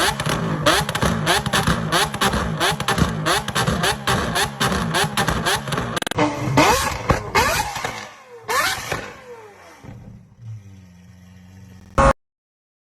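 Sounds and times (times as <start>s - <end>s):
car engine idling: 0.0s - 12.0s
car exhaust revving and popping: 0.0s - 12.1s.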